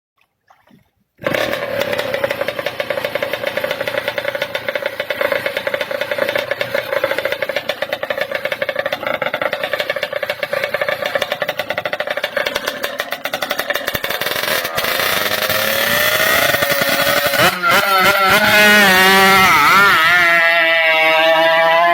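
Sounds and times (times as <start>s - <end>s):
two-stroke boat engine revving: 1.2s - 21.9s.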